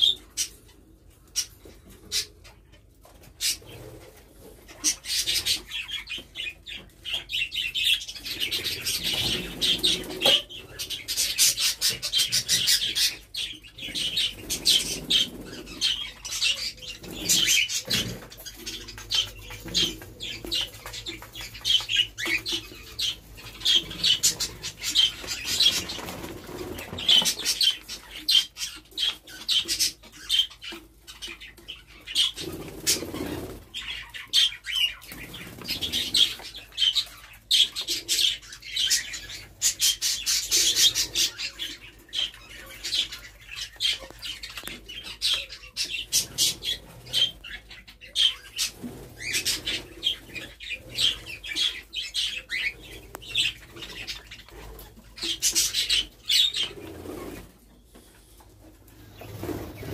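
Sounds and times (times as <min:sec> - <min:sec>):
small parrots chirping: 0:04.7 - 0:57.5.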